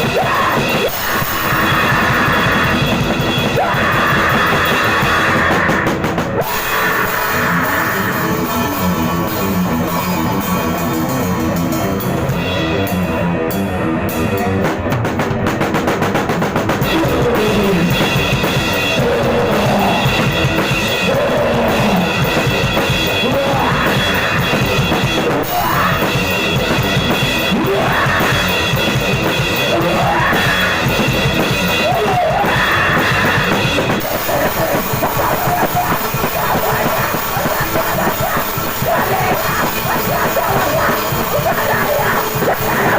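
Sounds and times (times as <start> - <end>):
metal punk band music: 0.0 - 42.9
pounding drum kit: 0.0 - 42.9.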